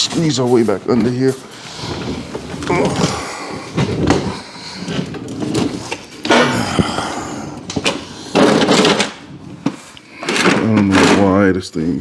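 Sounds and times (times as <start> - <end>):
knocks and scrapes under a car: 0.0 - 11.5.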